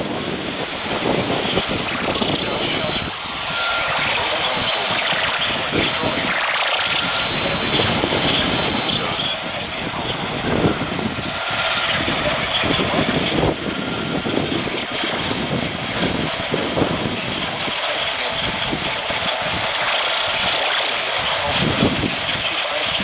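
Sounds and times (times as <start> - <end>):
radio static and hiss: 0.0 - 23.0.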